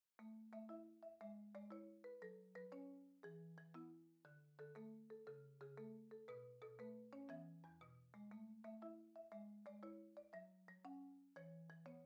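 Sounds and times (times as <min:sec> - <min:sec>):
mallet percussion melody: 0:00.2 - 0:12.0.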